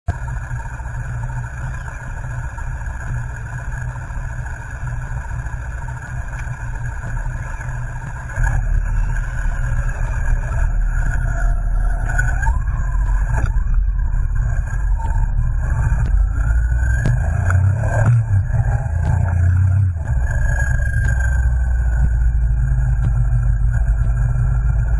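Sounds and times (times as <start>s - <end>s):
motorcycle engine drone: 0.1s - 24.9s.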